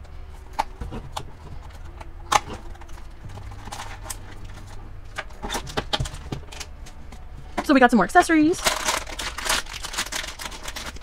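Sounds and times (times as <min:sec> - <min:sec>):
cardboard and packaging rustling: 0:00.0 - 0:11.0.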